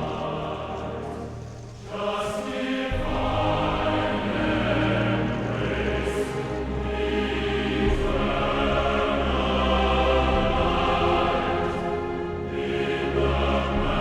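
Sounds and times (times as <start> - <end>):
military band playing a hymn: 0.0 - 14.0.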